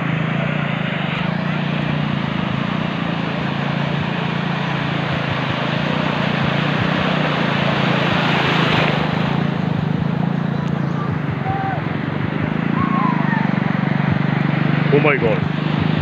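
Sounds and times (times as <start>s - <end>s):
motor engine running: 0.0s - 16.0s
wash of noise: 0.0s - 16.0s.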